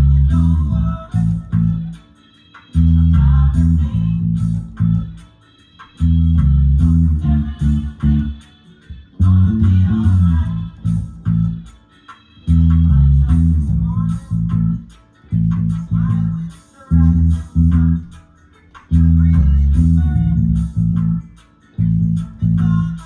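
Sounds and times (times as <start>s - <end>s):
reggae bass guitar line: 0.0s - 23.0s.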